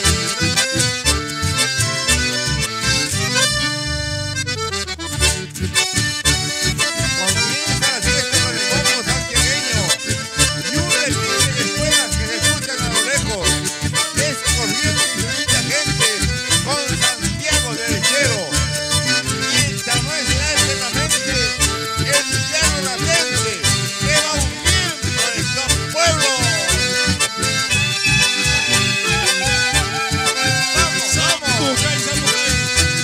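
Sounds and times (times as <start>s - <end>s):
accordion band music: 0.0s - 33.0s.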